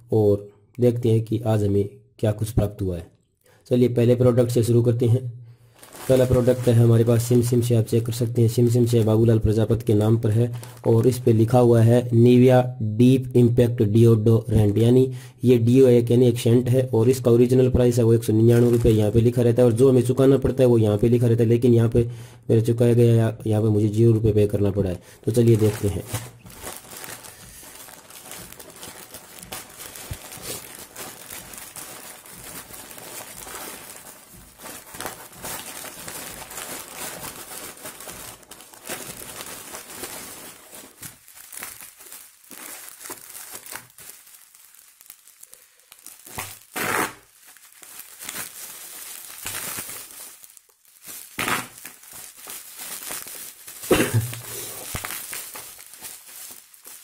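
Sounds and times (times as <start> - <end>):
plastic and bubble wrap crinkling: 3.9 - 12.4, 15.6 - 22.0, 23.5 - 57.0.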